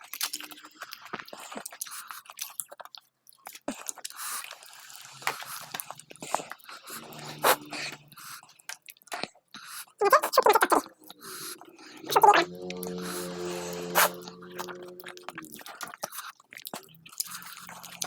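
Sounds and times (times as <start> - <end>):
chewing and mouth noises: 0.0 - 12.4, 14.0 - 18.0.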